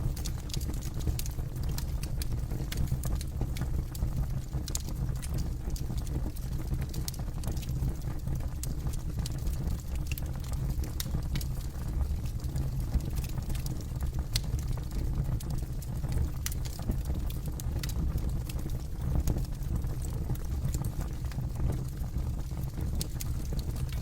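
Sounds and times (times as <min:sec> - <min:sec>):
low rumble of flames: 0:00.0 - 0:24.0.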